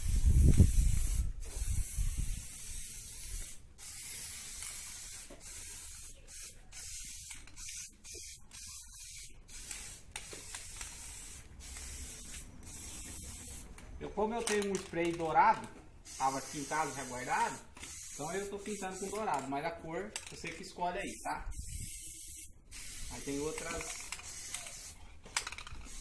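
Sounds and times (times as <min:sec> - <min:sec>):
aerosol spray can hissing: 0:00.0 - 0:13.7, 0:16.0 - 0:19.4, 0:21.1 - 0:25.0.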